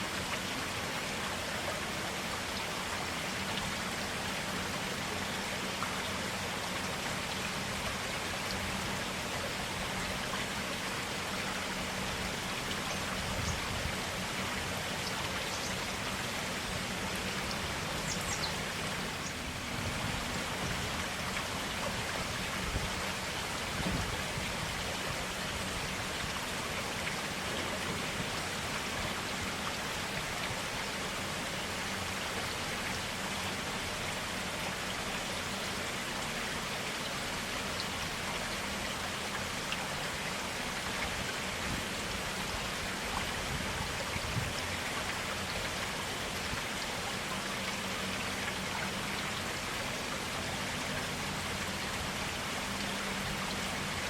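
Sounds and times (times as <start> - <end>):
stream water running over rocks: 0.0 - 54.0.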